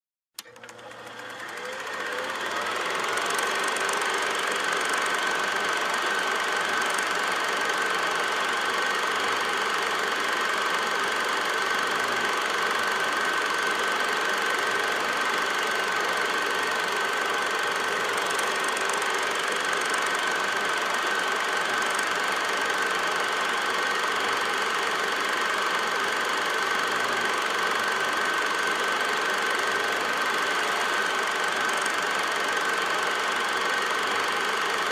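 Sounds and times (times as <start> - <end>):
film projector whirring and clattering: 0.4 - 34.9.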